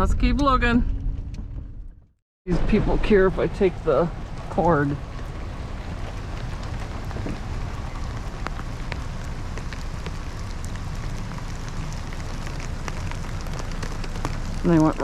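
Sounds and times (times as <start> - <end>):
steady low rumble: 0.0 - 15.0
rain pattering: 2.5 - 15.0.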